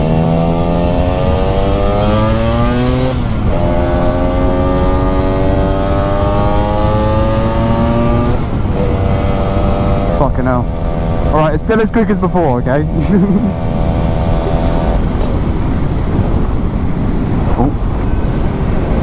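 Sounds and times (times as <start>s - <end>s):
scooter engine accelerating: 0.0s - 19.0s.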